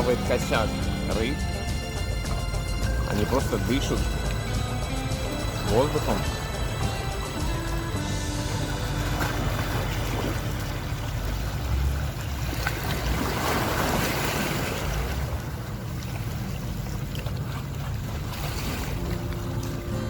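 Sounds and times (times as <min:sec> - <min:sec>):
sea water washing on shore: 0:00.0 - 0:20.0.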